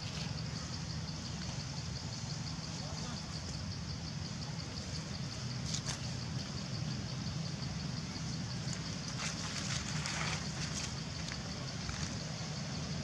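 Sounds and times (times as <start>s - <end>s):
low hum of distant engine: 0.0s - 13.0s.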